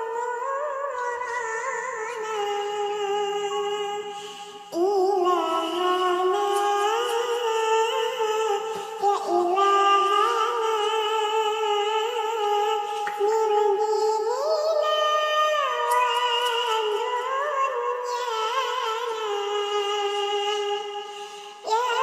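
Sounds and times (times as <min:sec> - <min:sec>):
high wordless singing voice: 0:00.0 - 0:22.0.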